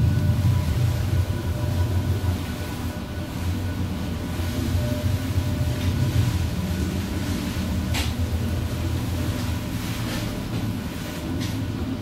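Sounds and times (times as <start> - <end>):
lift car rumbling: 0.0 - 12.0.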